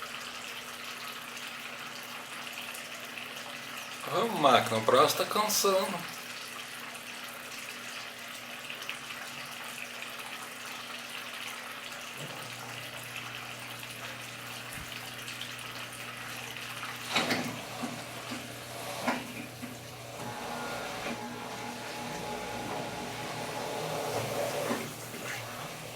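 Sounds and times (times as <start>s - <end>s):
washing machine draining water: 0.0s - 25.9s.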